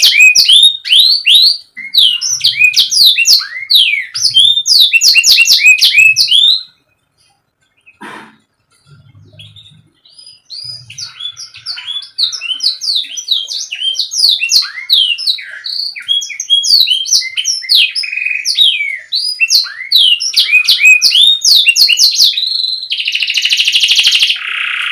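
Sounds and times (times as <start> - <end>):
canary chirping and trilling: 0.0 - 24.9.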